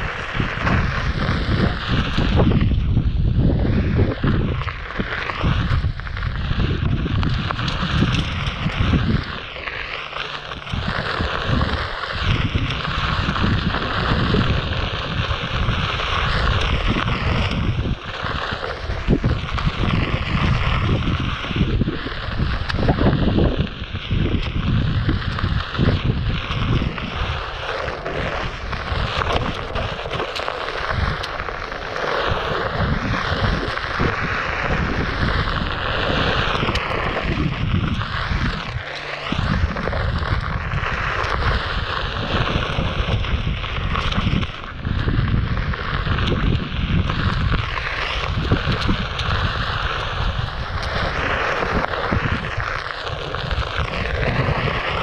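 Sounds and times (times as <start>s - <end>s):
tyre rolling on dirt trail: 0.0s - 55.0s
wind buffeting microphone: 0.0s - 55.0s.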